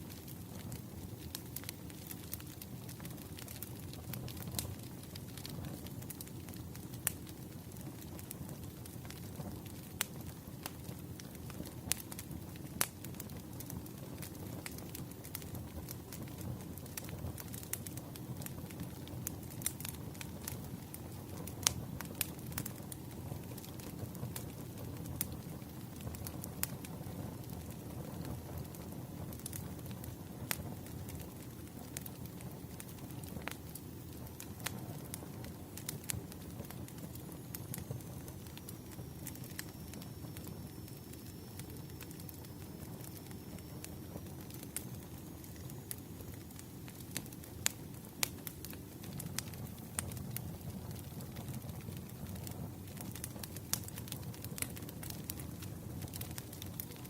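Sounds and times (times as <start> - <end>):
firewood crackling and popping: 0.0 - 57.0
low rumble of fire: 0.0 - 57.0.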